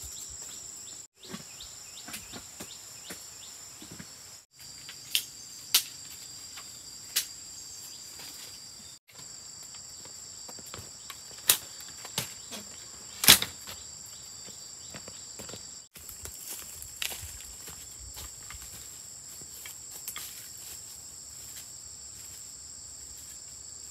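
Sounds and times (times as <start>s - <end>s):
shrill insect chorus: 0.0s - 23.9s.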